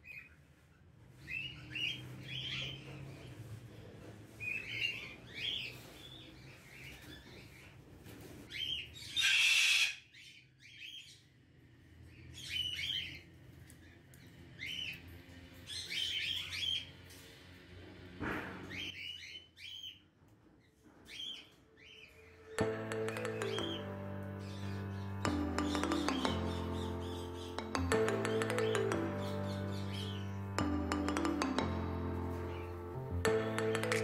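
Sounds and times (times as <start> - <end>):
caged birds chirping: 0.0 - 34.0.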